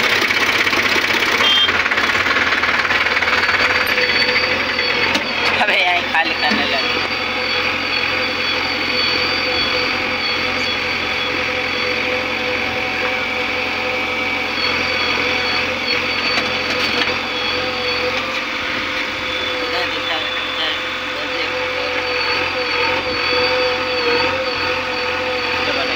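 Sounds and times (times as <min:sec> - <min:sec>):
diesel machinery running: 0:00.0 - 0:25.9
high whine: 0:00.0 - 0:25.9.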